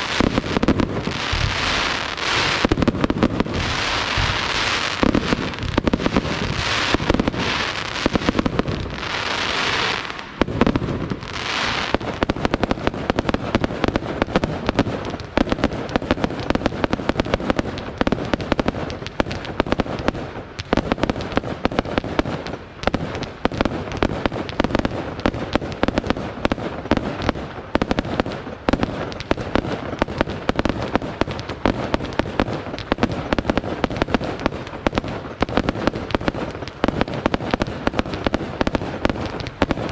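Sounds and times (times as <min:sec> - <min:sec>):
fireworks bangs and crackles: 0:00.0 - 0:39.9
fireworks hissing: 0:00.0 - 0:39.9.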